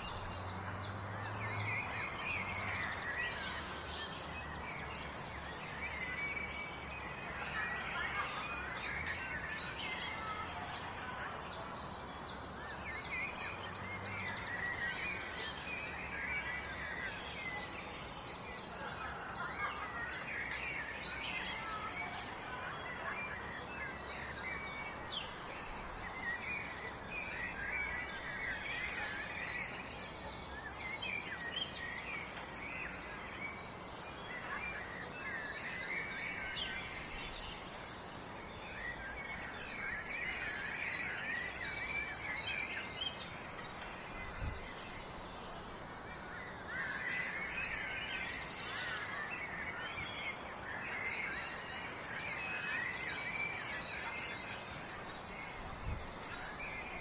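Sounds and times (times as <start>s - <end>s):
songbirds chirping and warbling: 0.0s - 57.0s.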